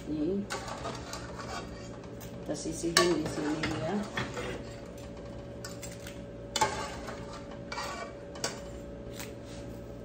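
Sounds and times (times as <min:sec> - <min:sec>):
utensils clinking on pot and dishes: 0:00.4 - 0:08.8.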